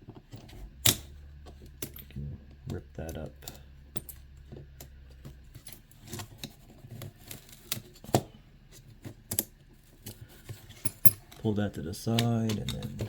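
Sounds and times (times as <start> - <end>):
hands clicking and rustling: 0.0 - 13.0.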